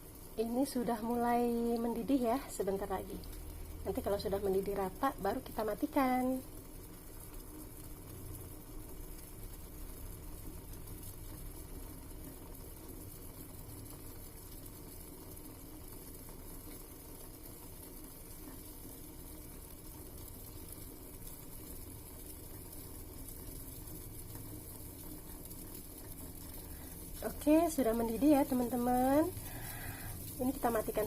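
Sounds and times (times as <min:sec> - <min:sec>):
pot of water bubbling: 0:00.0 - 0:31.0.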